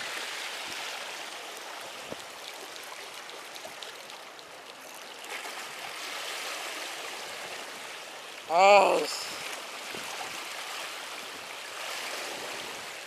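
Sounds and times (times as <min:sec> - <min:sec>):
seawater lapping against rocks: 0:00.0 - 0:13.0.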